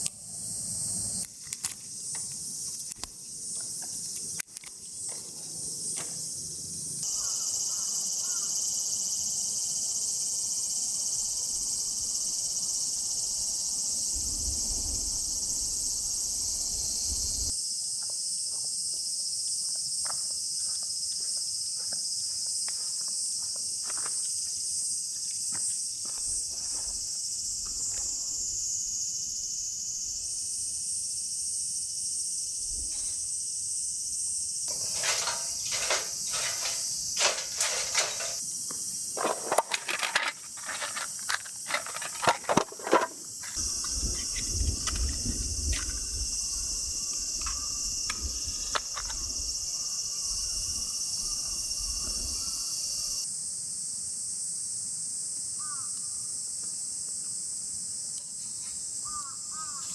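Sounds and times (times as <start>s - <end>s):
insects singing: 0.0s - 17.7s, 25.0s - 53.3s, 57.5s - 59.9s.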